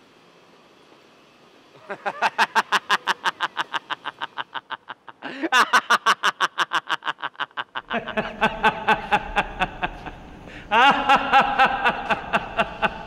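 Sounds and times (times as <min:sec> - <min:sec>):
low hum with held tones: 0:00.0 - 0:13.0
person laughing: 0:01.8 - 0:13.0.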